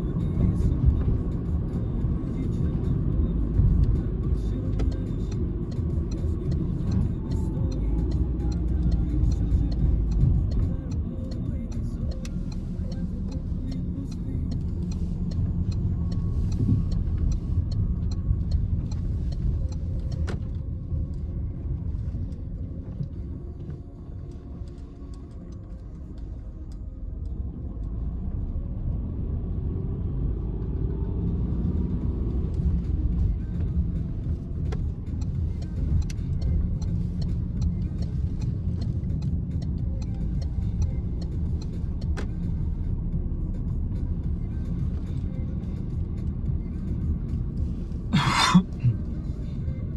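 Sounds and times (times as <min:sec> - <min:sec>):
turn signal ticking: 0:00.0 - 0:28.4, 0:30.0 - 0:49.9
car engine and road rumble: 0:00.0 - 0:49.9.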